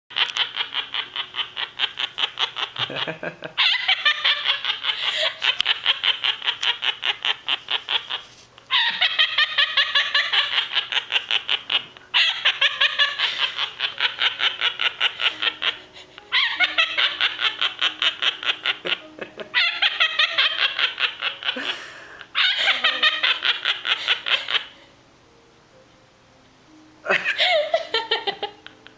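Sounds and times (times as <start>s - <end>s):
parrot imitating laughter: 0.1s - 24.8s.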